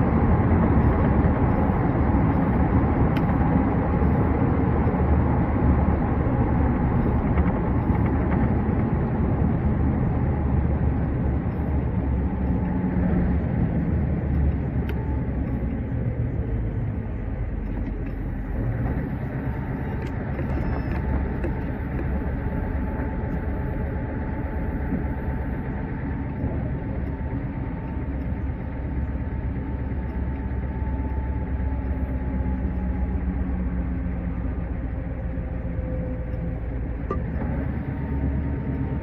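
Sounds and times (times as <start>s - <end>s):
road noise: 0.0s - 39.0s
truck diesel engine running: 0.0s - 39.0s.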